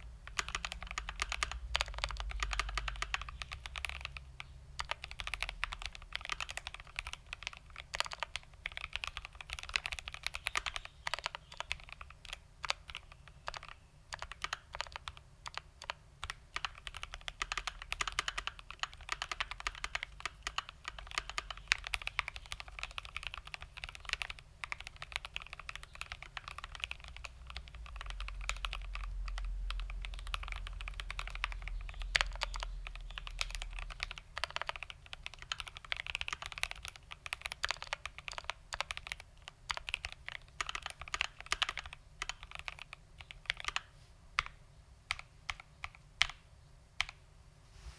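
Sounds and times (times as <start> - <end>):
mechanical keyboard typing: 0.2 - 46.4.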